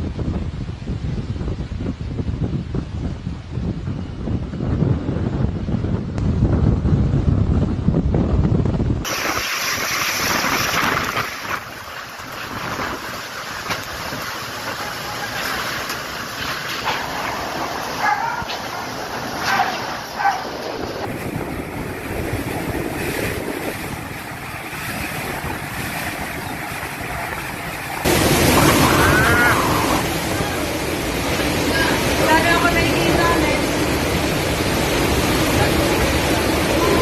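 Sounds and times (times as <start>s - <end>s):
typhoon wind and rain: 0.0s - 37.0s.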